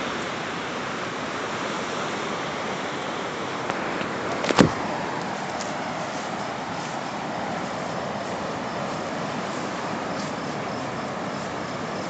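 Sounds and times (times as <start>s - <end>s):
surf breaking on rocks: 0.0s - 12.0s.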